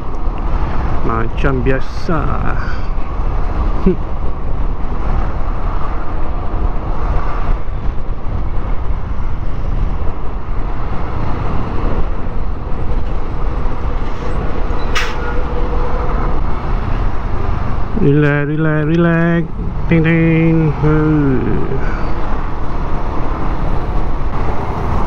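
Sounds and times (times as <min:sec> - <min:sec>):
road traffic: 0:00.0 - 0:25.0
wind rumble on microphone: 0:00.0 - 0:25.0.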